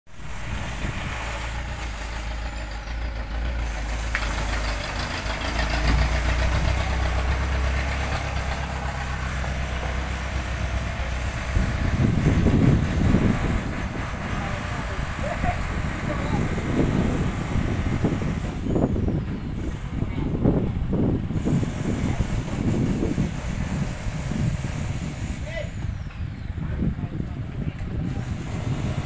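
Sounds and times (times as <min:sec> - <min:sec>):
heavy truck engine rumbling: 0:00.1 - 0:29.0.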